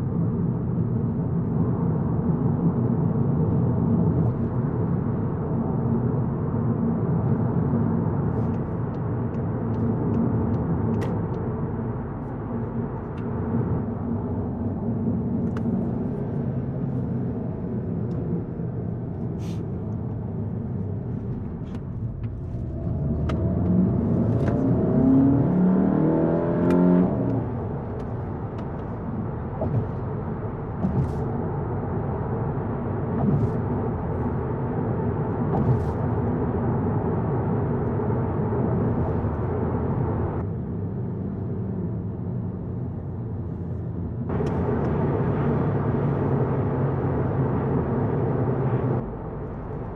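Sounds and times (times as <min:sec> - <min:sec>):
car engine drone: 0:00.0 - 0:49.9
road noise: 0:00.0 - 0:49.9.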